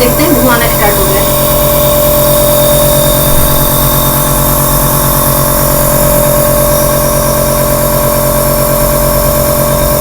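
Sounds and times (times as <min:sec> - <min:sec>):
nebulizer compressor humming: 0:00.0 - 0:10.0.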